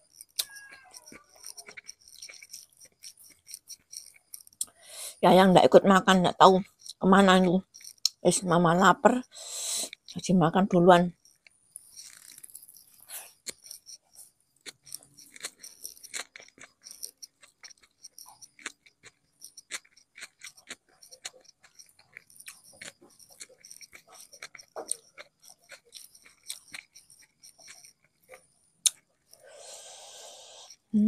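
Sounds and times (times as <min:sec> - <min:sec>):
mouth clicks and smacks: 0:00.0 - 0:04.8, 0:06.5 - 0:08.4, 0:11.0 - 0:29.4
person chewing and crunching: 0:00.0 - 0:10.3, 0:11.0 - 0:31.0.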